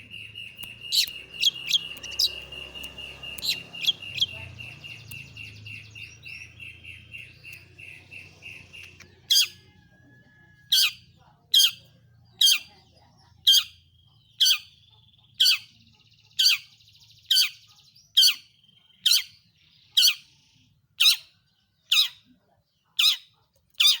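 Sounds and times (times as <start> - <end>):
bird chirping notes: 0.0 - 20.4.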